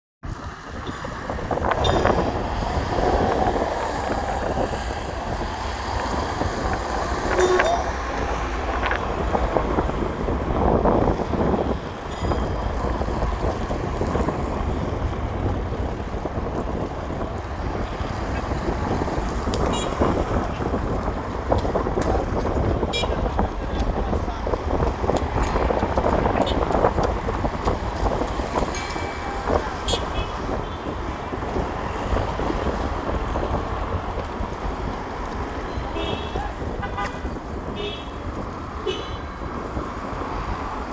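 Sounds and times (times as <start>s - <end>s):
strong wind buffeting microphone: 0.2s - 40.9s.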